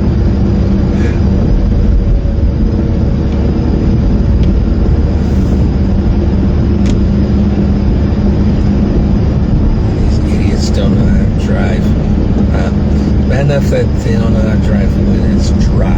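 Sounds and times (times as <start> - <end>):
car engine and road drone: 0.0 - 15.9.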